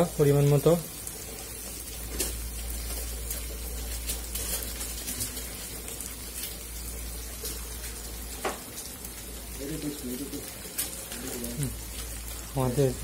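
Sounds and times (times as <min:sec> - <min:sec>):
faint crackles: 0:00.0 - 0:13.0
onions sizzling in oil: 0:00.0 - 0:13.0.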